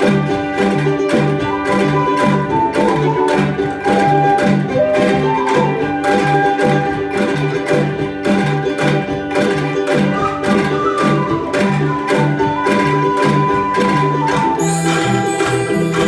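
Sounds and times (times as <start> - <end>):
angklung ensemble playing: 0.0 - 16.0.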